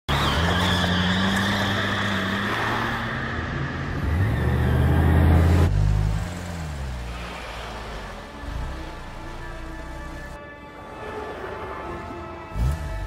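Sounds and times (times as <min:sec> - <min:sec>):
engine revving: 0:00.1 - 0:10.4, 0:12.5 - 0:13.0
car engines humming: 0:00.1 - 0:13.0.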